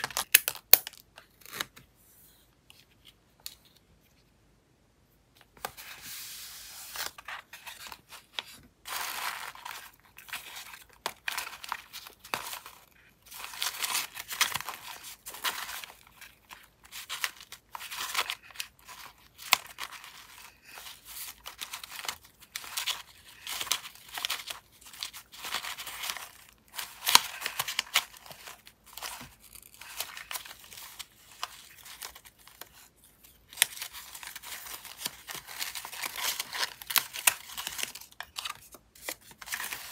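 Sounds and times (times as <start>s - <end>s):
paper rustling and crinkling: 5.4s - 39.9s.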